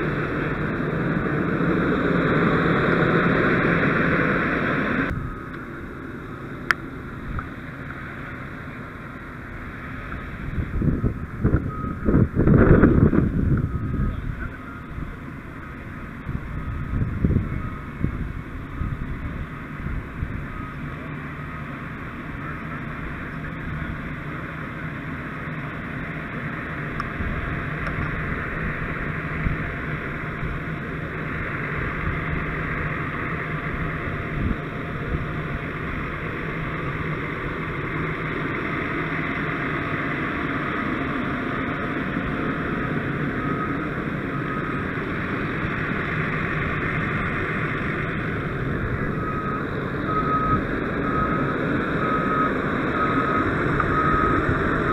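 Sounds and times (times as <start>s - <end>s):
fire engine engine droning: 0.0s - 54.9s
faint reversing alarm beeps: 5.1s - 7.1s, 10.5s - 54.9s.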